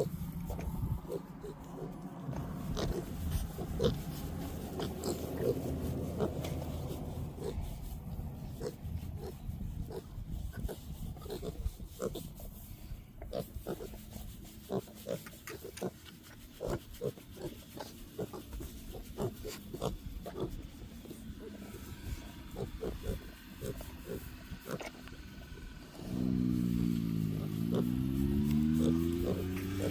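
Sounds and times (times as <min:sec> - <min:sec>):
pigs grunting: 0:00.0 - 0:07.8, 0:08.5 - 0:12.4, 0:14.6 - 0:29.9.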